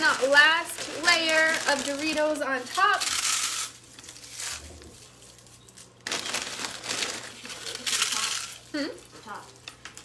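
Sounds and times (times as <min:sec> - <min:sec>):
chips crushed by hand crunching: 0:00.0 - 0:10.0.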